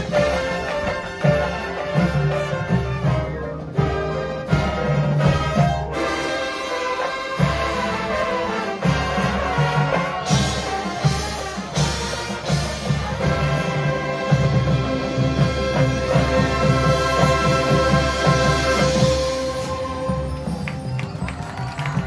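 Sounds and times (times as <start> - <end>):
brass chords: 0.0 - 20.9
marching drumline: 0.0 - 22.0.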